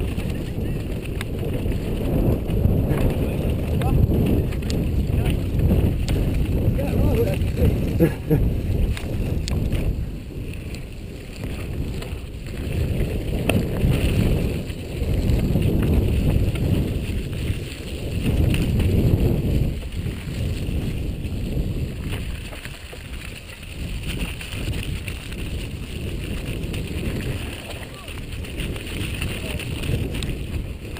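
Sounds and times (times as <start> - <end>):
mountain bike rattles and knocks: 0.0 - 30.9
wind rumbling over microphone: 0.0 - 30.9.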